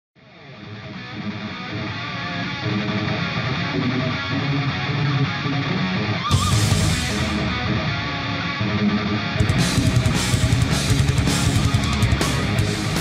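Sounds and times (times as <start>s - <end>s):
guitar background music: 0.2s - 13.0s.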